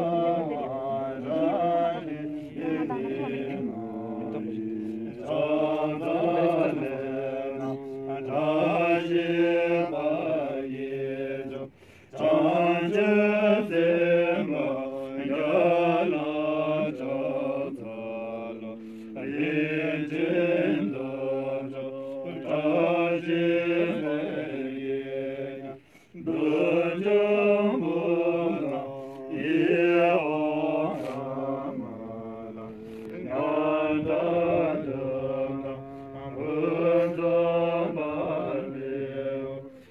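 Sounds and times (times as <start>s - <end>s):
monks chanting prayers: 0.0s - 39.9s.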